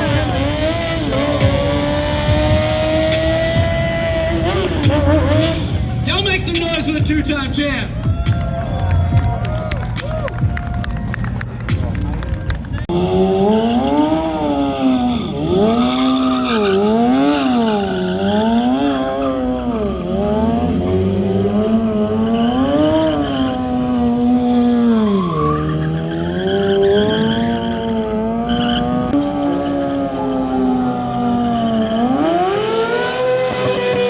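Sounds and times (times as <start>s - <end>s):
motorcycle engine revving: 0.0s - 9.8s, 11.0s - 34.0s.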